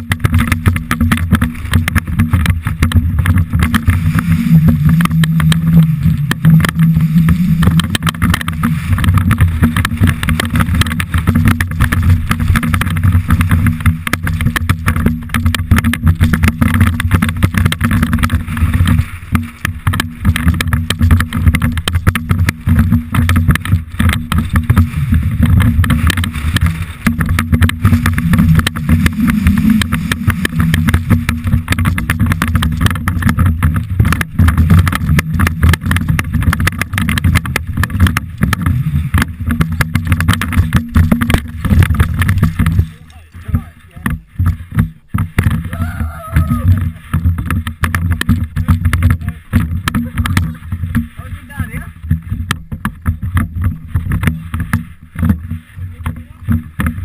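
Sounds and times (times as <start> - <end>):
bike rattling over stones: 0.0 - 57.0
wind rumble on microphone: 0.0 - 57.0.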